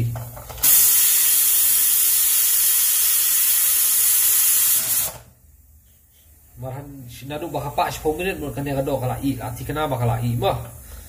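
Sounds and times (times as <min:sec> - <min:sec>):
pressure cooker venting steam: 0:00.0 - 0:11.0.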